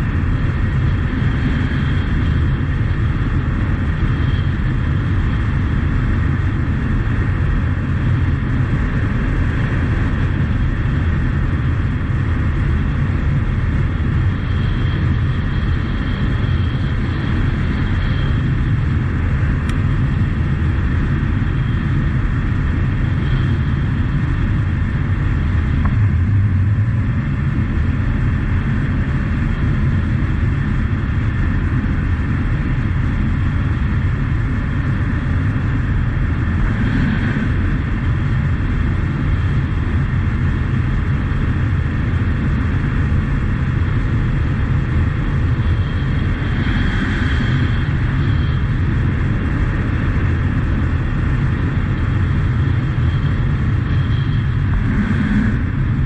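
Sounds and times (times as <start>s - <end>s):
wind rushing: 0.0s - 29.1s, 34.6s - 40.2s, 42.8s - 56.0s
motorcycle engine running: 0.0s - 56.0s.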